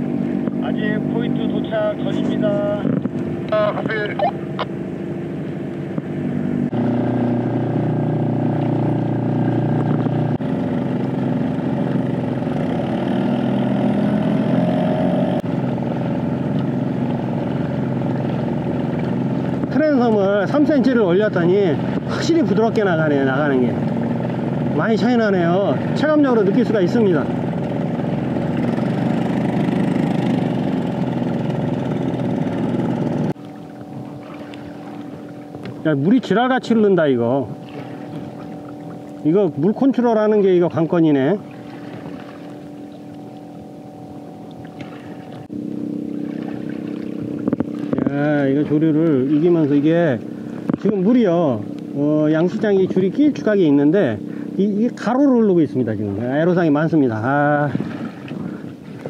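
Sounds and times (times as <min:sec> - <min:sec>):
small boat motor humming: 0:00.0 - 0:59.0
water rushing past hull: 0:00.0 - 0:59.0.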